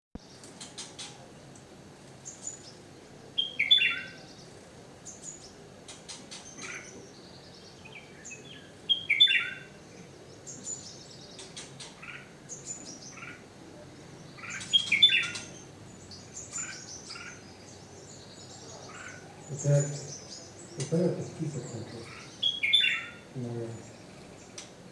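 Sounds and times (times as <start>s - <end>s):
small birds chirping: 0.2s - 24.9s.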